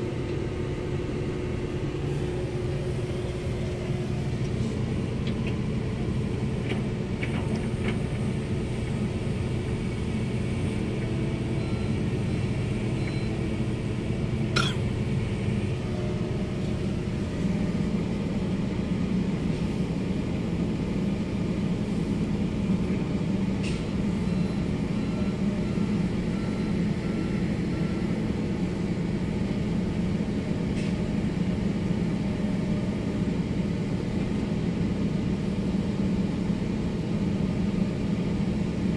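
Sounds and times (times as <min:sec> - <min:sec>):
excavator engine rumbling: 0:00.0 - 0:38.9.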